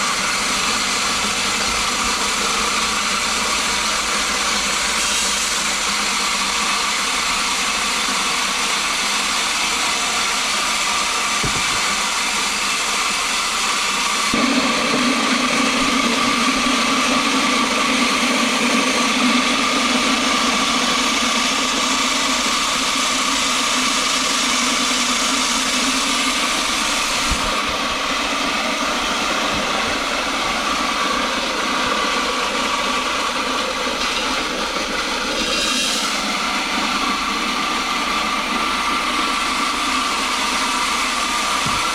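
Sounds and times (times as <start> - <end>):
electric grinder grinding corn: 0.0 - 41.9.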